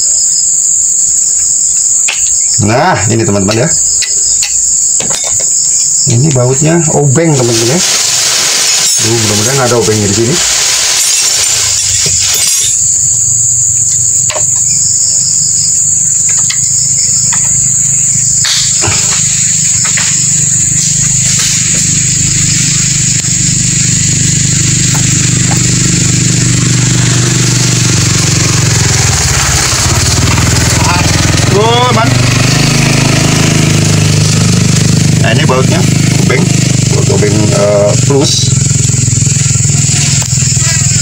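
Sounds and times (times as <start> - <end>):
high-pitched drone: 0.0 - 41.0
motor humming: 0.0 - 41.0.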